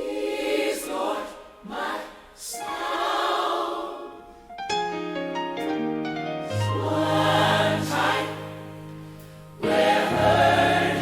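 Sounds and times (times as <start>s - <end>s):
choir singing wordless chords: 0.0s - 4.7s, 6.4s - 11.0s.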